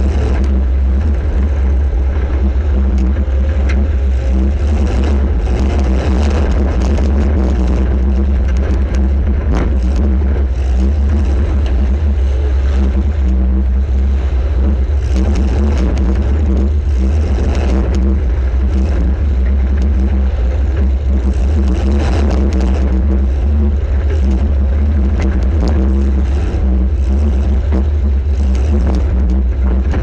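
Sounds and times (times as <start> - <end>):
car engine running loud: 0.0 - 30.0.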